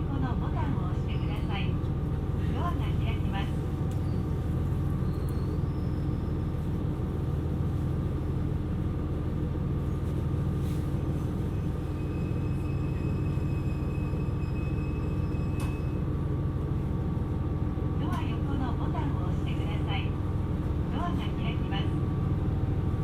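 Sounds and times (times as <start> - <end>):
train wheels and engine rumbling: 0.0 - 23.0.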